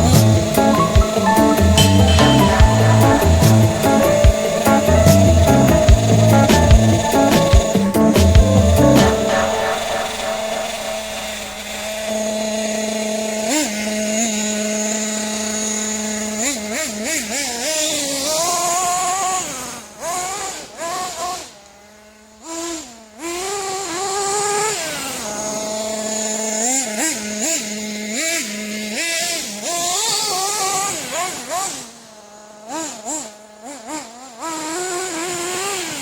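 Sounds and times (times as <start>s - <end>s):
small nitro engine idling and revving: 0.0s - 36.0s.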